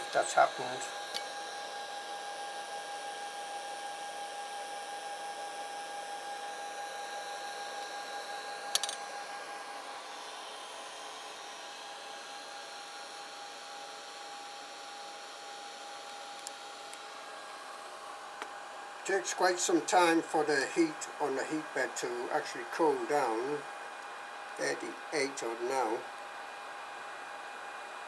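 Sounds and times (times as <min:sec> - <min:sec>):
cooling fans whirring: 0:00.0 - 0:28.0.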